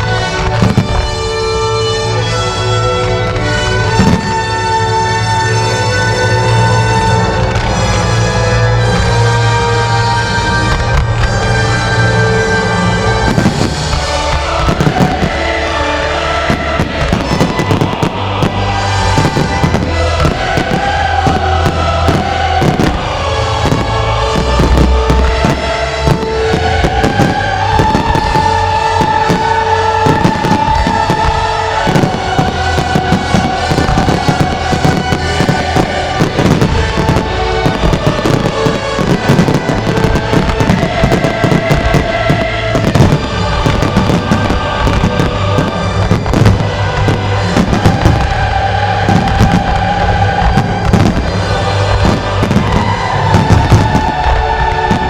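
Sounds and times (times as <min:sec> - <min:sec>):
fireworks exploding and crackling: 0:00.0 - 0:55.0
loud show music: 0:00.0 - 0:55.0.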